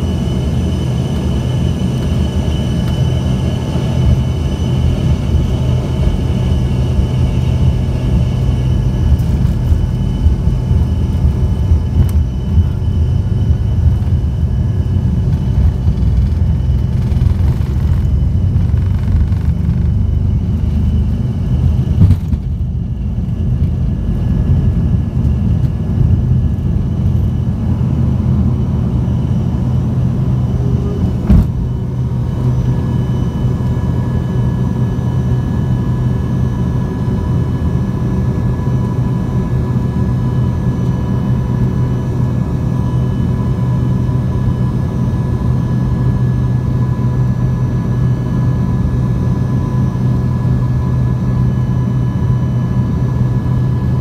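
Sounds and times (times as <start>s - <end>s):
jet engine cabin rumble: 0.0s - 54.0s
thin engine whine: 0.0s - 54.0s.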